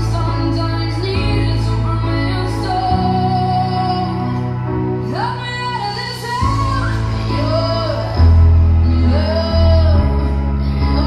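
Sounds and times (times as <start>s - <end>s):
deep bass line: 0.0s - 11.0s
pop ballad with female vocal: 0.0s - 11.0s.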